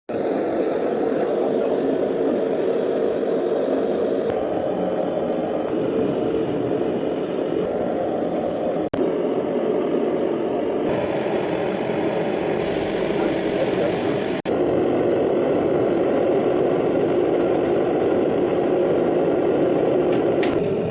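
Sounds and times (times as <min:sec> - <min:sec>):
gas torch roaring: 0:00.1 - 0:20.9.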